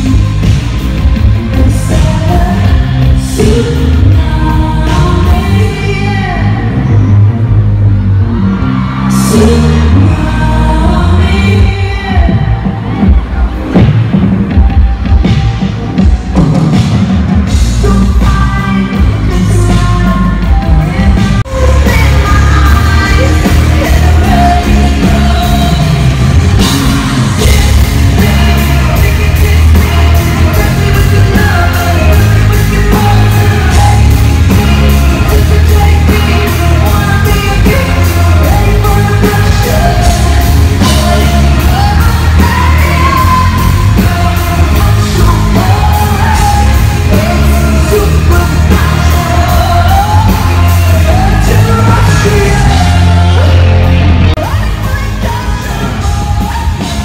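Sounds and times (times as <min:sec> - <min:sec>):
heavy bass line: 0:00.0 - 0:57.0
live pop band: 0:00.0 - 0:57.0
person singing: 0:00.0 - 0:57.0
steady drum beat: 0:11.4 - 0:57.0.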